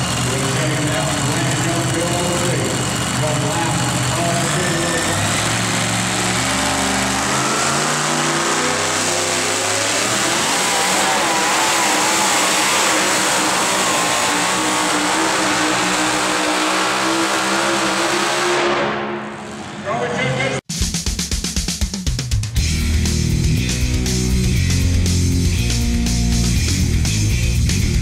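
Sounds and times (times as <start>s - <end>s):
truck engine at full throttle: 0.0s - 20.6s, 22.6s - 28.0s.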